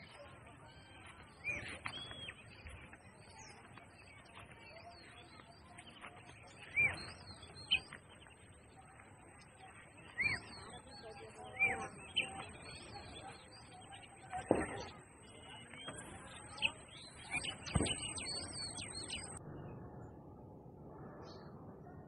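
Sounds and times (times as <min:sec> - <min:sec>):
small birds chirping: 0:00.0 - 0:19.4.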